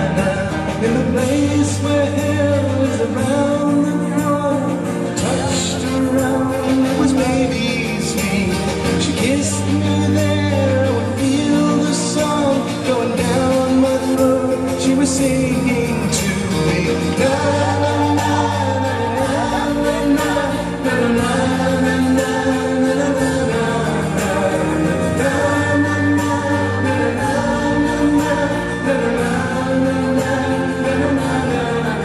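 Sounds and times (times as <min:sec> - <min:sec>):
waltz music with singer: 0:00.0 - 0:32.0.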